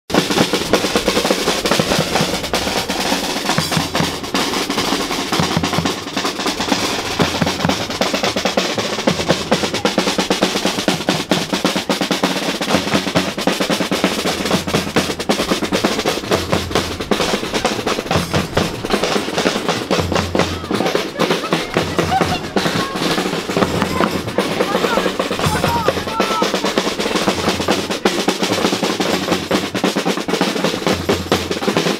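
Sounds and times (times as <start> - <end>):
bass drum beat: 0.1 - 31.9
snare drum rolls: 0.1 - 31.9.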